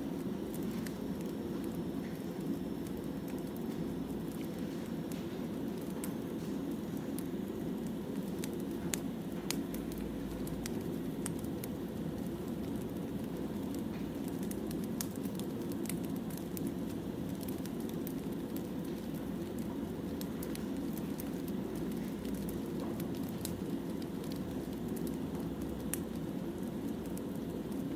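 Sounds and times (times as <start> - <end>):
firewood crackling and popping: 0.0 - 27.9.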